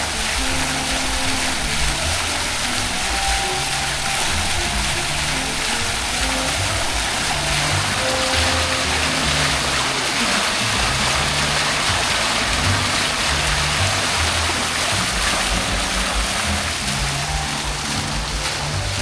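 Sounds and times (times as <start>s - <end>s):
music playing: 0.0s - 19.0s
rain falling: 0.0s - 19.0s.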